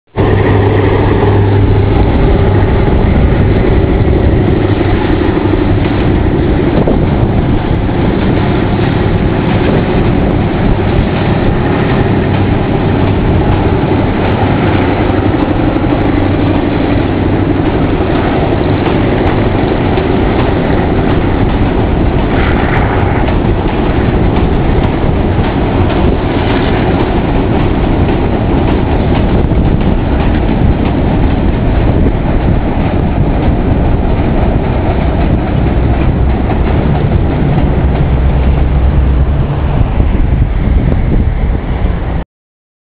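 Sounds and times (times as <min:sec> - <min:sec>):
locomotive engine drone: 0:00.1 - 0:42.2
low engine hum: 0:00.1 - 0:42.2
wagons rumbling over bridge: 0:00.1 - 0:42.2.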